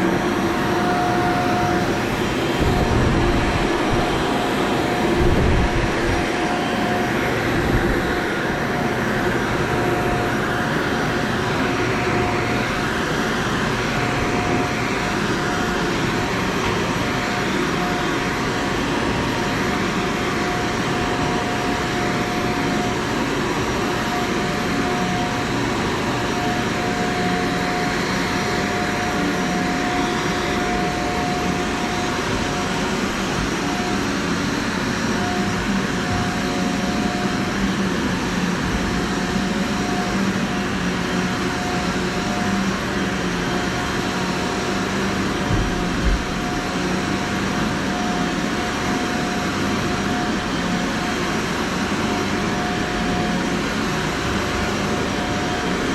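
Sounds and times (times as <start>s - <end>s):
vacuum cleaner running on carpet: 0.0s - 55.9s.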